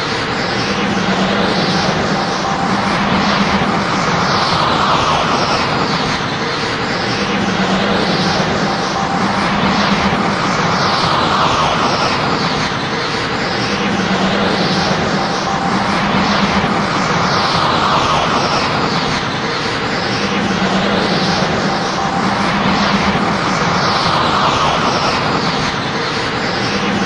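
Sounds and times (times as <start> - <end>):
crackling energy rush: 0.0 - 27.0
low hum: 0.0 - 27.0.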